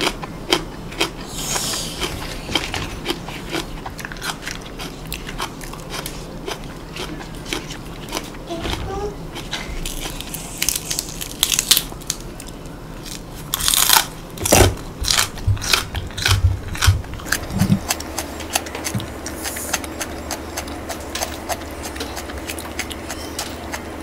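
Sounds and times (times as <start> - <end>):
chewing crunchy green onion: 0.0 - 24.0.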